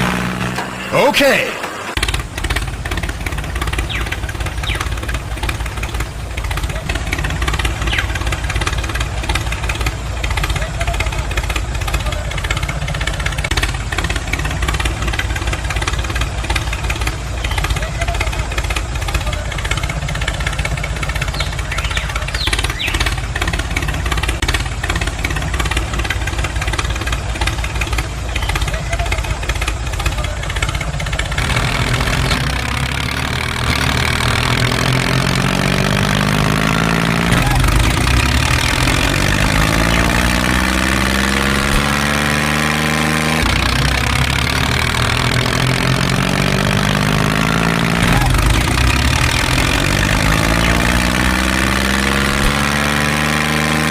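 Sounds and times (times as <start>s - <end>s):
tractor engine running: 0.0s - 53.9s
buzzing rattle of gears: 1.6s - 53.9s.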